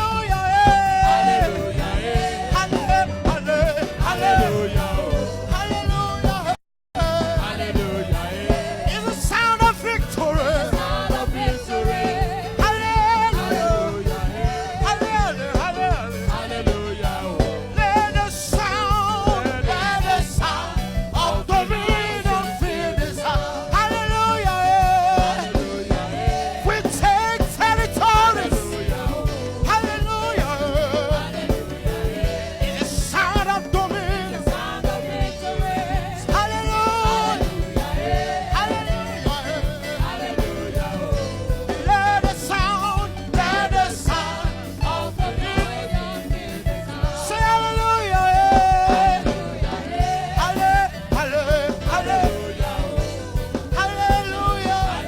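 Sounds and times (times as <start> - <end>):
band with steady beat: 0.0 - 55.0
voices singing: 0.0 - 55.0.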